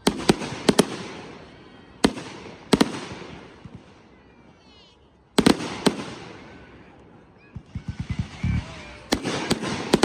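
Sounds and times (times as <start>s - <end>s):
fireworks bangs: 0.0s - 4.3s, 5.4s - 10.0s.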